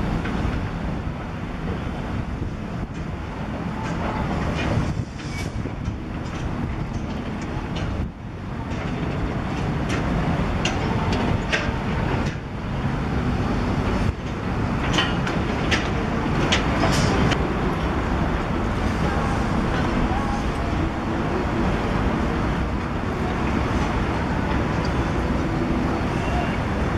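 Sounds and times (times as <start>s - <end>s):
excavator diesel engine: 0.0s - 26.9s.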